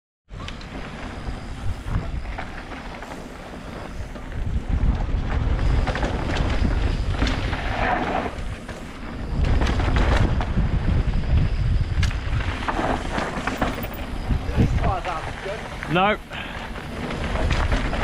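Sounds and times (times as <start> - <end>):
bike rattling over rough ground: 0.3 - 18.0
wind buffeting microphone: 0.3 - 18.0.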